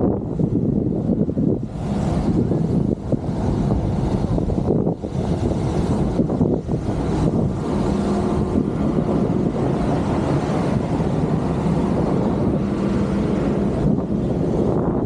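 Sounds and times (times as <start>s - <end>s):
road noise: 0.0s - 15.0s
wind rumbling on microphone: 0.0s - 15.0s.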